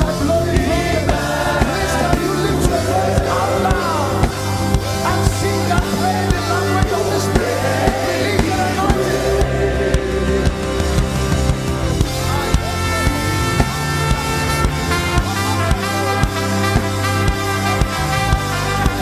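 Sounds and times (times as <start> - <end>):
drum beats: 0.0 - 19.0
gospel worship music with singing: 0.0 - 19.0.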